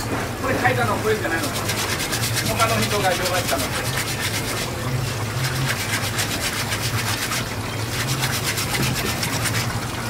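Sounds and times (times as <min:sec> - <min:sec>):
hose water splashing: 0:00.0 - 0:10.0
sponge wiping cutting board: 0:01.0 - 0:09.8.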